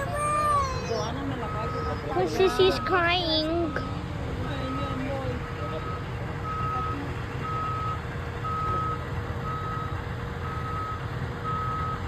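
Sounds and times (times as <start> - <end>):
diesel engine idling: 0.0 - 12.0
reversing alarm beeping: 1.3 - 5.0, 5.7 - 12.0.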